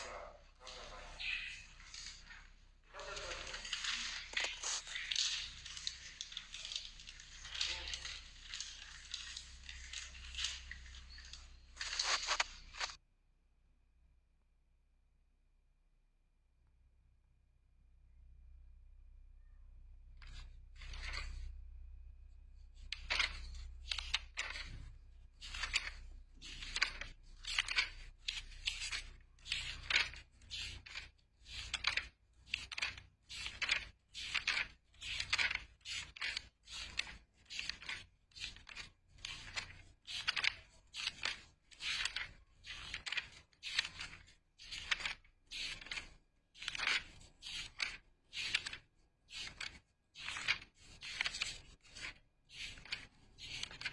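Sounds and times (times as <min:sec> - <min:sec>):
paper rustling and scraping: 0:00.0 - 0:13.0, 0:20.2 - 0:21.5, 0:22.8 - 0:53.9.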